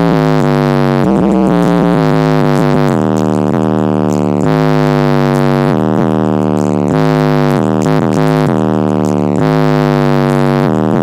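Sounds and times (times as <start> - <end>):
heavy synth-bass music: 0.0 - 11.0.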